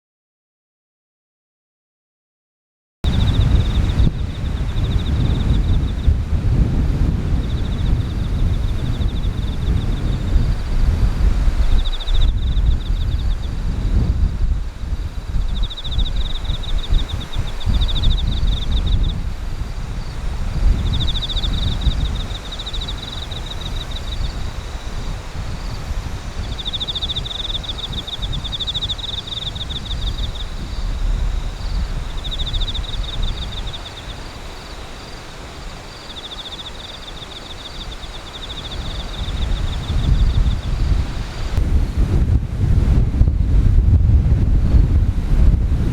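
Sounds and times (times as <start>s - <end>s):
wind on microphone: 3.0s - 45.9s
insect high-pitched chirps: 3.1s - 6.2s, 7.1s - 41.6s.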